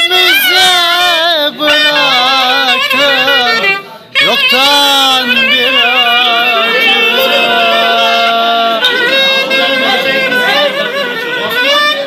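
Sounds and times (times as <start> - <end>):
clarinet playing folk melody: 0.0 - 12.0.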